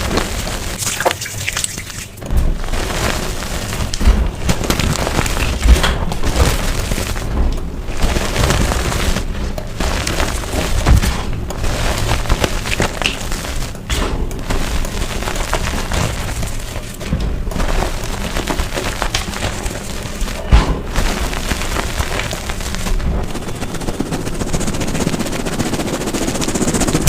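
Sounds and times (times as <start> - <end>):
chalk crunching and crumbling: 0.0 - 26.9
heavy low thuds: 2.3 - 24.0.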